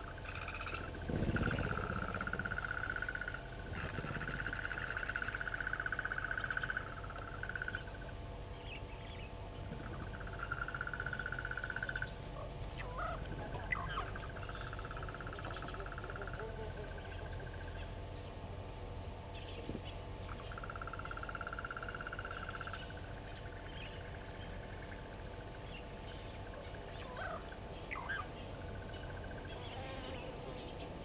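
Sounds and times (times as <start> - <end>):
animal calling with pulsing trill: 0.0 - 18.1, 20.2 - 30.8.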